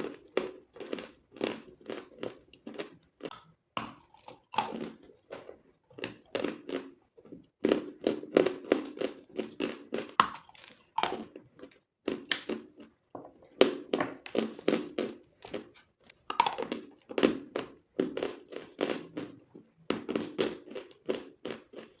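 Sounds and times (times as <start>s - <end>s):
chewing chalk crunches: 0.0s - 22.0s.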